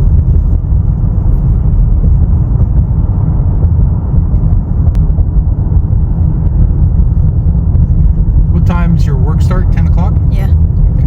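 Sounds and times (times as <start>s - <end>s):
car driving rumble inside cabin: 0.0s - 11.0s.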